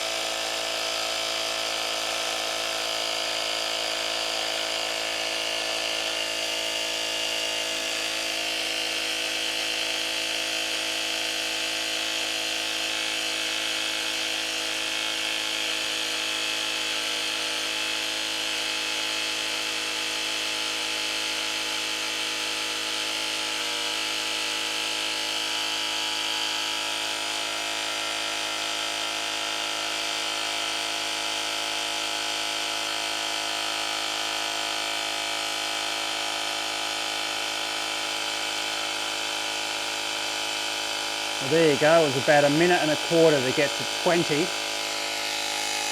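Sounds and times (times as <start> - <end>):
mini air compressor running: 0.0 - 45.9.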